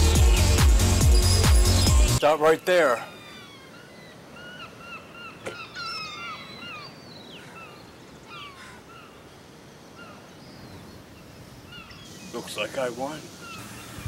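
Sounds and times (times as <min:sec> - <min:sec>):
birds chirping: 0:00.0 - 0:14.0
faint outdoor hiss: 0:02.1 - 0:14.0.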